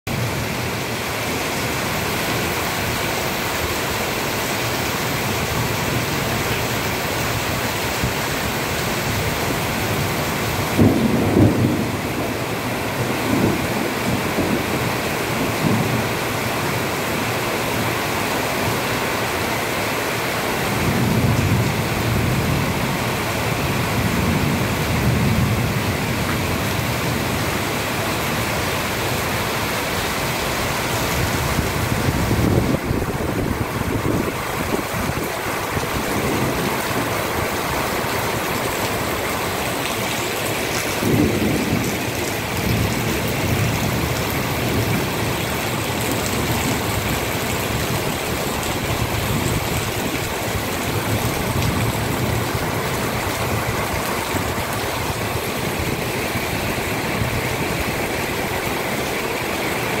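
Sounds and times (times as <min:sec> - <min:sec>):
torrential rain pouring: 0:00.0 - 1:00.0.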